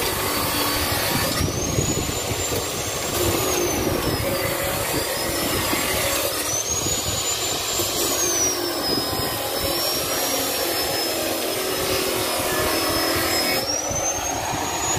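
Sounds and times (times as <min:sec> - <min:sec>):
high wavering whine: 0:00.0 - 0:14.9
machine droning: 0:00.0 - 0:14.9.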